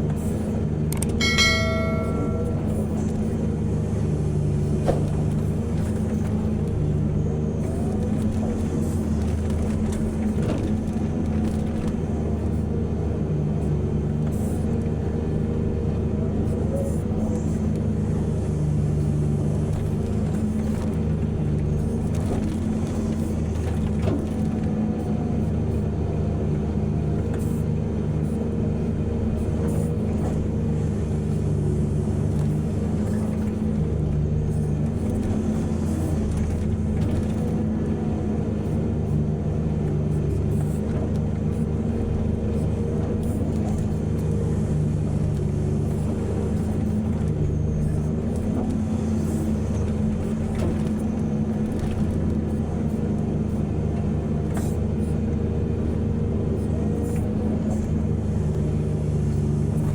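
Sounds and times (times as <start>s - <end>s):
heavy diesel engines droning: 0.0s - 59.9s.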